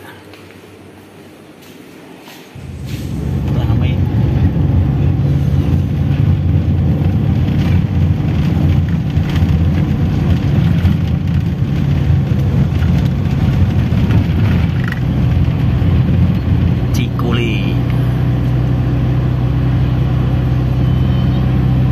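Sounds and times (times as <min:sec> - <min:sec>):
tyre and road noise: 0:02.5 - 0:21.9
van engine humming: 0:02.6 - 0:21.9.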